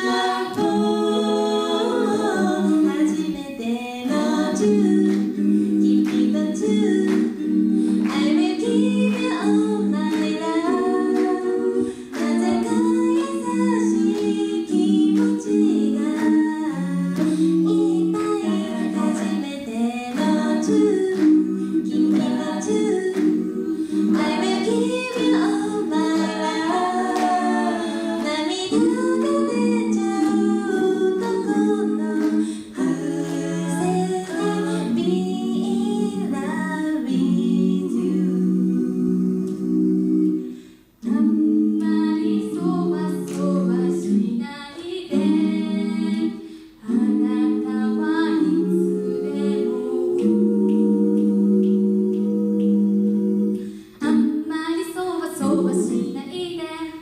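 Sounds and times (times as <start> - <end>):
women singing in harmony: 0.0 - 57.0.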